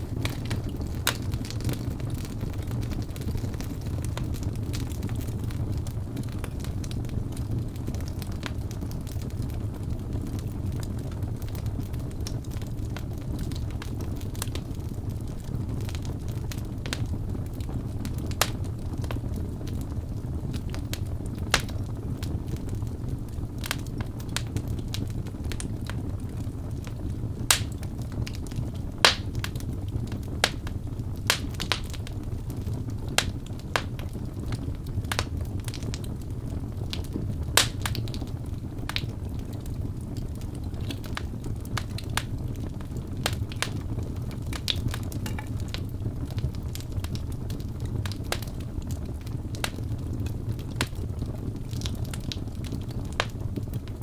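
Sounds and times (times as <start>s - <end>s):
fire crackles and pops: 0.0s - 54.0s
low rumble of flames: 0.0s - 54.0s.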